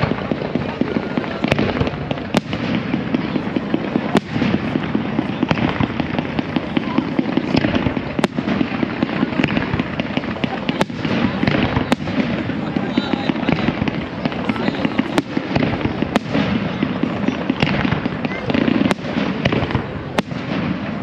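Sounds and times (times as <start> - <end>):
crowd chatter: 0.0 - 21.0
fireworks banging: 0.0 - 21.0
fireworks crackling: 0.0 - 21.0.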